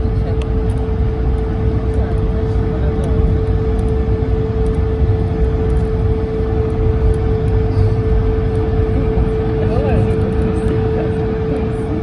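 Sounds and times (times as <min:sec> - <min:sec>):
jet engines at takeoff thrust: 0:00.0 - 0:12.0.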